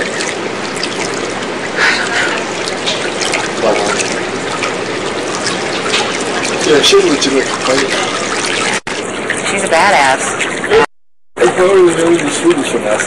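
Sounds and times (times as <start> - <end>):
running water trickling: 0.0 - 13.0.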